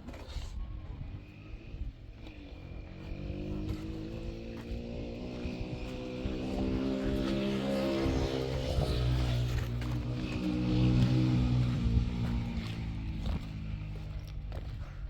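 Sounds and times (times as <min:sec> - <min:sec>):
vehicle engine accelerating: 0:00.6 - 0:15.0.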